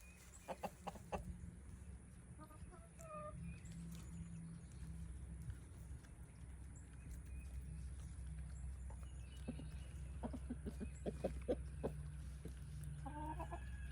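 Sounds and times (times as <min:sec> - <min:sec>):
chickens clucking: 0:00.0 - 0:13.9.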